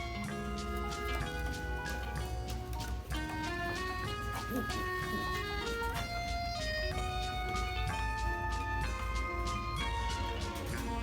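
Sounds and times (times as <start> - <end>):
instrumental music with beat and bass: 0.0 - 11.0.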